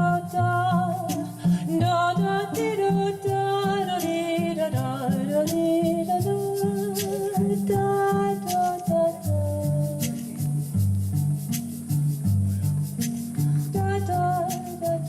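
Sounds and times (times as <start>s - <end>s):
person humming a melody: 0.0s - 10.8s, 13.4s - 15.0s
light percussion ticks: 0.1s - 15.0s.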